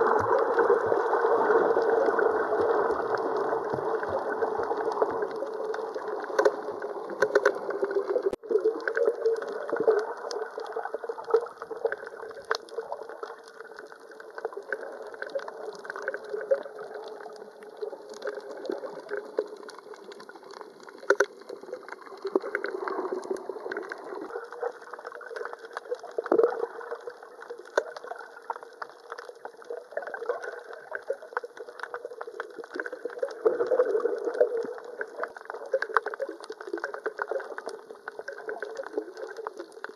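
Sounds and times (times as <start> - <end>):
sharp underwater clicks and crackles: 0.0 - 39.9
underwater moving water: 0.0 - 39.9.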